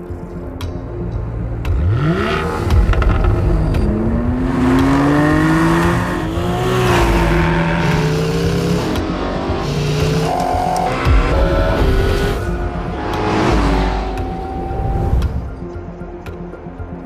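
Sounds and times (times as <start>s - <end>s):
car engine accelerating hard: 1.7s - 15.5s.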